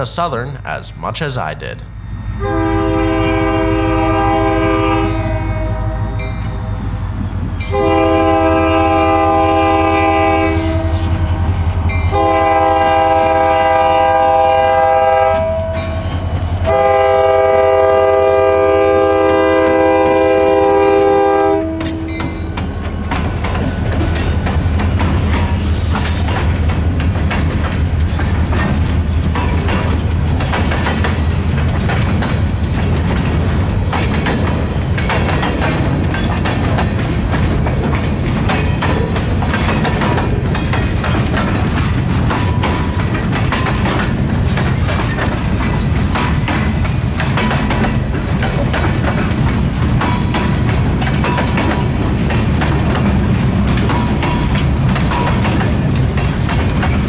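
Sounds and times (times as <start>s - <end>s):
freight train rumbling past: 0.0s - 57.0s
wheels clacking on rails: 2.1s - 57.0s.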